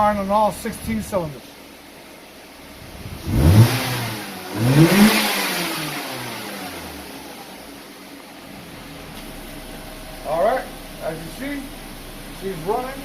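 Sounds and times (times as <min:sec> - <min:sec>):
car engine revving: 0:01.6 - 0:13.0.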